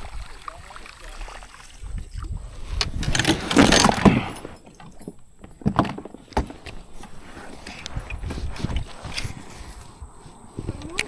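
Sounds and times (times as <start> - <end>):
kayak swishing through water: 0.0 - 11.0.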